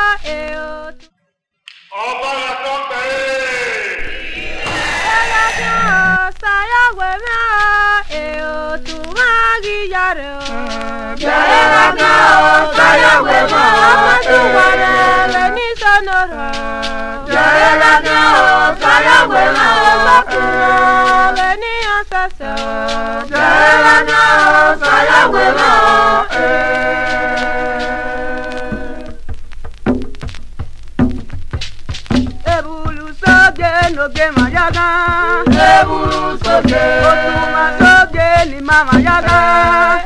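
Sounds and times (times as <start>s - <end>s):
group of voices singing: 1.9s - 29.2s, 32.5s - 40.0s.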